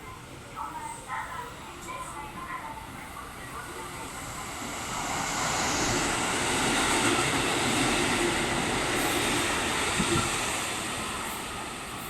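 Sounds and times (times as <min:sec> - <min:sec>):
rail and wheel noise: 0:00.0 - 0:12.0.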